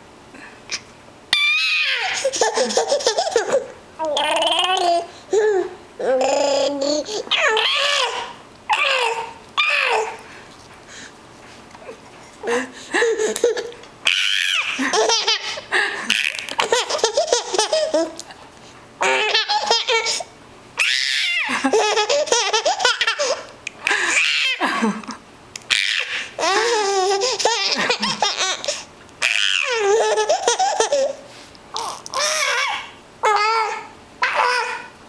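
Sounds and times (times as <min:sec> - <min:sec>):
baby laughing and squealing: 0:00.7 - 0:05.6, 0:06.4 - 0:10.2, 0:13.3 - 0:18.2, 0:19.0 - 0:24.6, 0:25.7 - 0:34.9.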